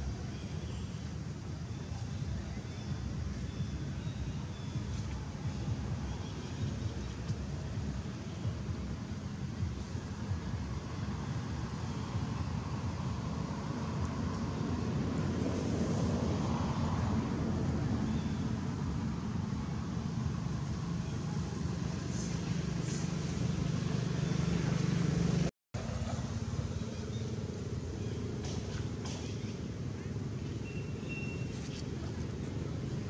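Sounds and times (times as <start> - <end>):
low engine rumble: 0.0 - 33.0.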